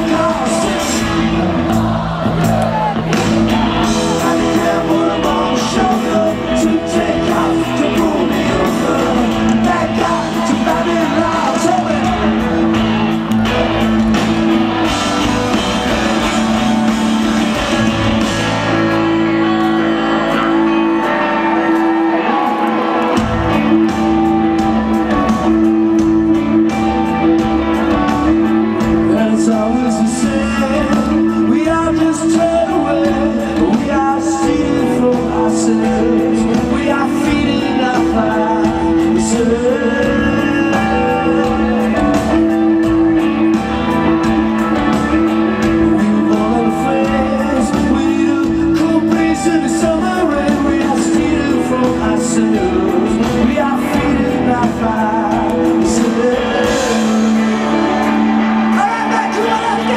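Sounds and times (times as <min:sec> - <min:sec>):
bass guitar: 0:00.0 - 0:59.9
drums: 0:00.0 - 0:59.9
electric guitars: 0:00.0 - 0:59.9
keyboard: 0:00.0 - 0:59.9
male lead vocals: 0:00.0 - 0:59.9.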